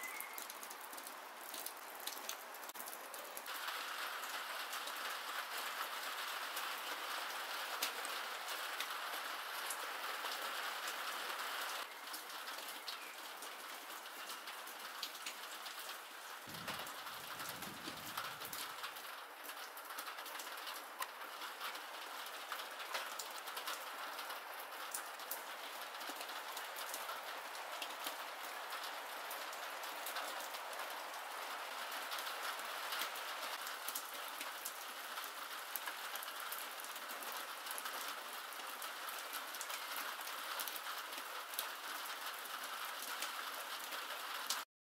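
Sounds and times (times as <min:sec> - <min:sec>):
steady rain falling: 0:00.0 - 0:44.7.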